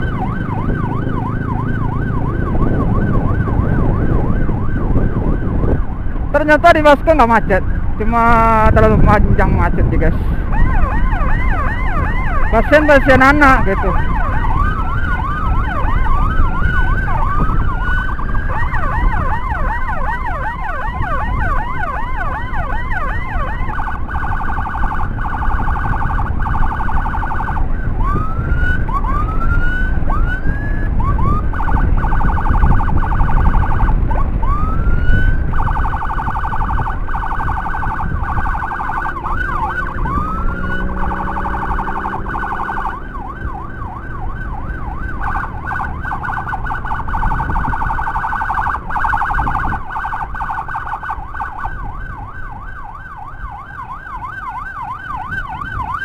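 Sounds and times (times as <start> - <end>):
motorcycle engine: 0.0 - 6.3, 13.4 - 52.0
electronic siren whooping and warbling: 0.0 - 56.0
wind rumble: 0.0 - 56.0.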